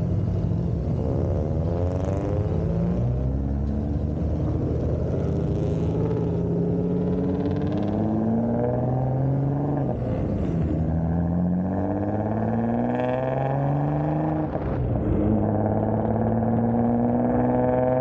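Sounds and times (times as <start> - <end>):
car engine accelerating through gears: 0.0 - 18.0.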